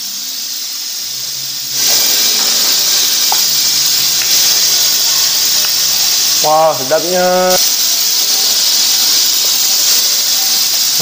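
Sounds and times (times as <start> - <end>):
rushing air hiss: 0.0 - 11.0.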